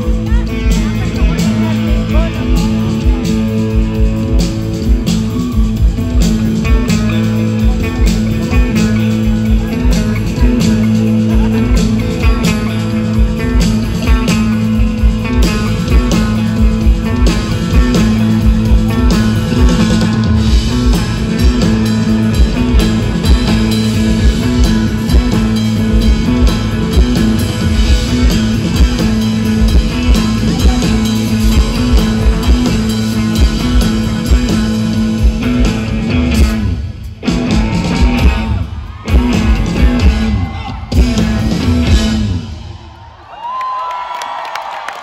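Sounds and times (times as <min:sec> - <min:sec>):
bass guitar: 0:00.0 - 0:42.8
electric guitar: 0:00.0 - 0:42.8
drum kit: 0:00.0 - 0:42.9.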